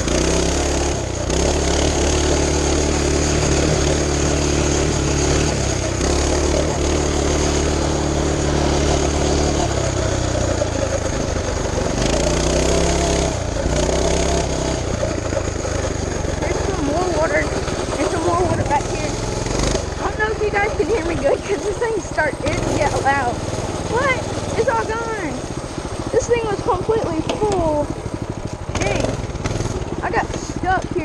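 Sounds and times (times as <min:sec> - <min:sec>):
small engine revving high: 0:00.0 - 0:27.9, 0:28.6 - 0:31.0.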